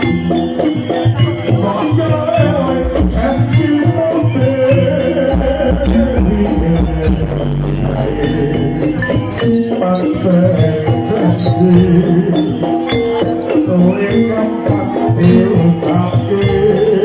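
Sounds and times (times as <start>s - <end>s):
held-note melody: 0.0s - 17.0s
steady drumming: 0.0s - 17.0s
traditional ensemble music: 0.0s - 17.0s.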